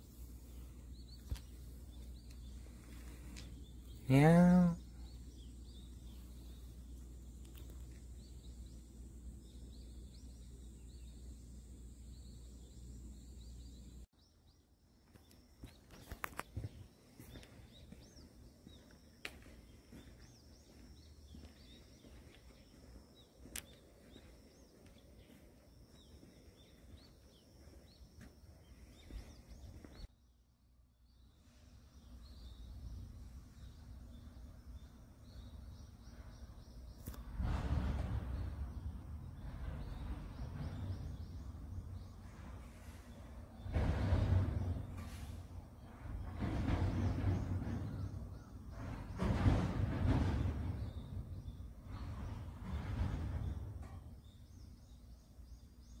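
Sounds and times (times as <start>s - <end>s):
small birds chirping: 0.0s - 49.3s, 50.4s - 56.0s.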